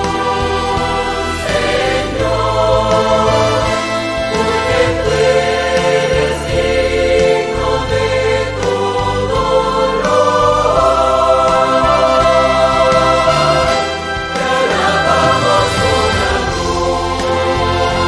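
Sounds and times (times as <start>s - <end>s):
mixed choir singing worship song: 0.0s - 18.0s.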